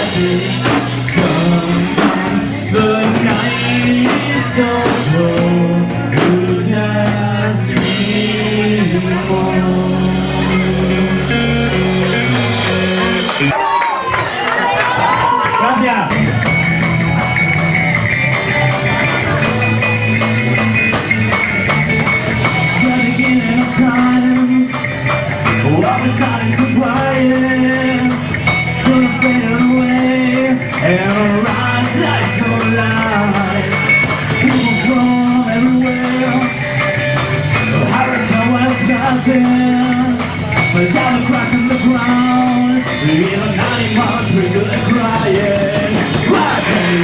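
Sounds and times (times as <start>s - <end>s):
electric guitar bending notes: 0.0s - 13.5s, 16.0s - 47.0s
live rock band playing: 0.0s - 47.0s.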